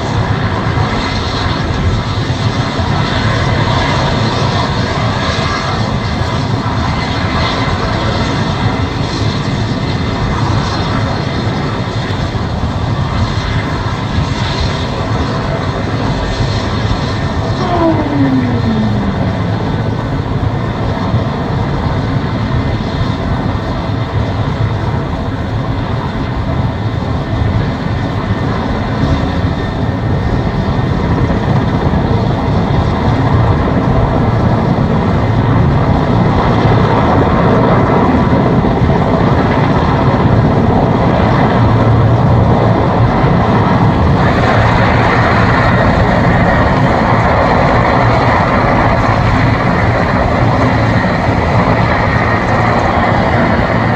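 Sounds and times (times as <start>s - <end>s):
helicopter engines and rotor: 0.0s - 53.9s.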